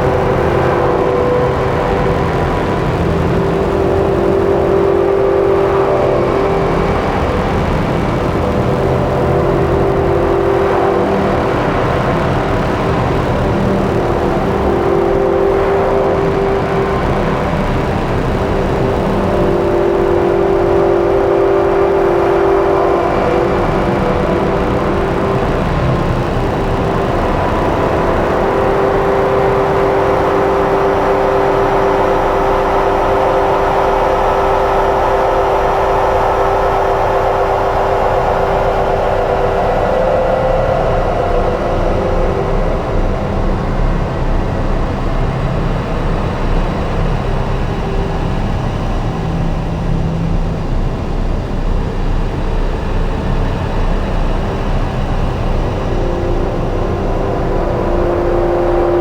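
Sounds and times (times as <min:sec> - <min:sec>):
low held tone: 0:00.0 - 0:59.0
rumbling noise wash: 0:00.0 - 0:59.0
synthesizer drone: 0:00.0 - 0:59.0.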